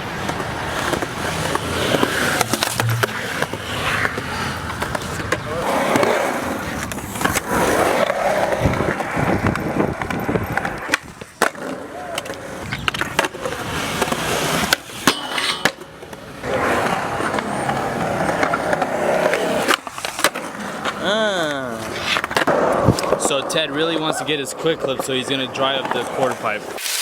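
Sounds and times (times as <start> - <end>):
skateboard clacking on ground: 0.0 - 26.8
skateboard wheels rolling on concrete: 0.0 - 27.0.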